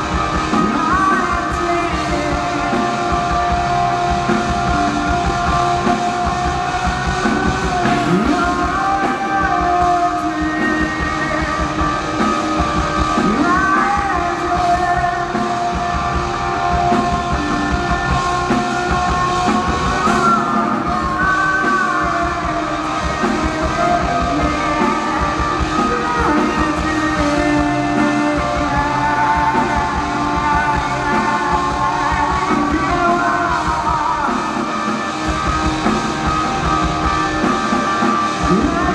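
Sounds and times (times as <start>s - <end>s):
electric guitars bending notes: 0.0s - 38.9s
live rock band playing: 0.0s - 38.9s.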